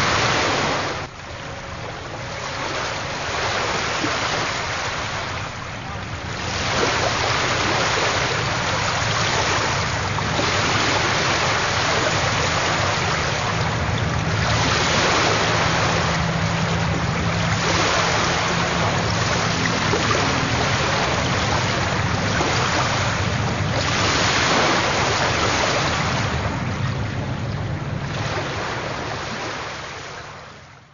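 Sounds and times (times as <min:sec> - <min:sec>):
sea waves breaking: 0:00.0 - 0:30.9.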